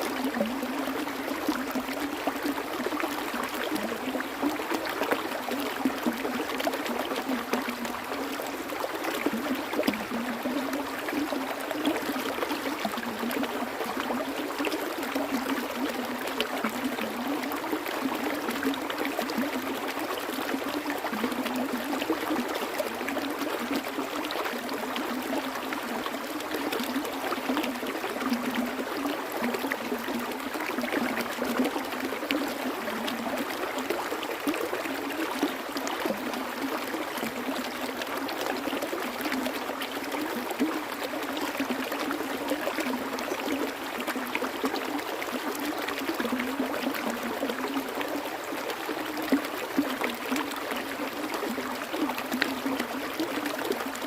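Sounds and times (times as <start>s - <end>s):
water flowing over rocks: 0.0s - 54.0s.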